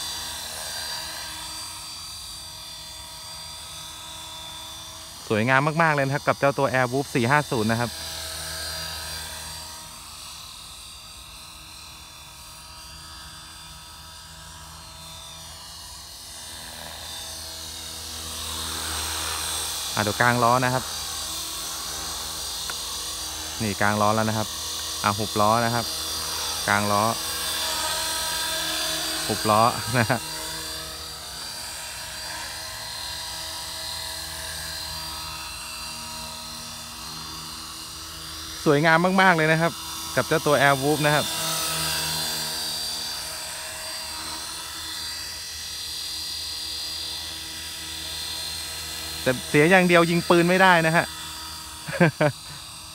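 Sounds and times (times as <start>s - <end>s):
model helicopter motor whine: 0.0s - 52.9s.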